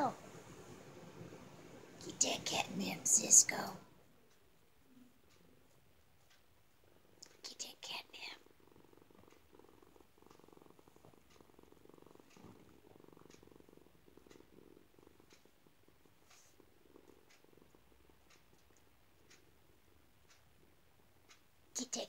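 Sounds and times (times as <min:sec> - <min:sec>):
cat purring: 0:00.0 - 0:22.0
faint ticks: 0:00.4 - 0:22.0.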